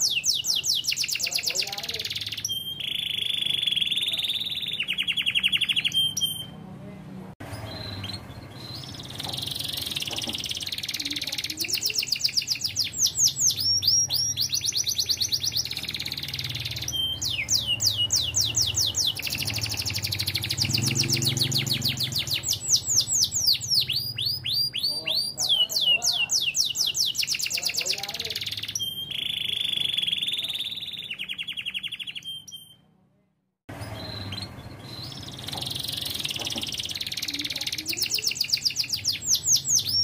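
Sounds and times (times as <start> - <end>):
canary singing: 0.0 - 6.7, 7.4 - 32.9, 33.7 - 40.0.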